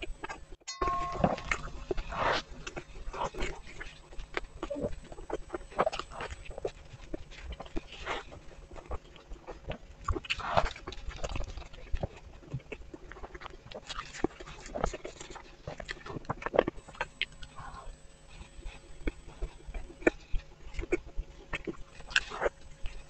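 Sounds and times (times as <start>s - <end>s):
mouth chewing and smacking: 1.2s - 23.0s.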